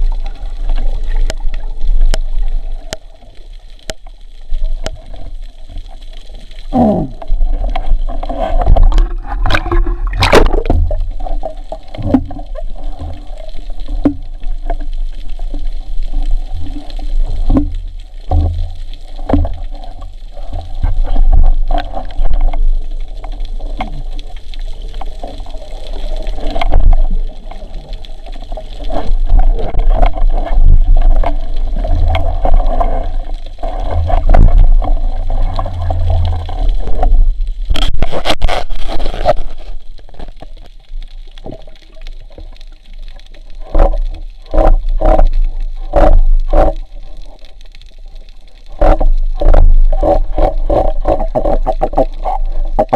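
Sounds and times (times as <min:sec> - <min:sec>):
water gurgling and sloshing: 0:00.0 - 0:52.9.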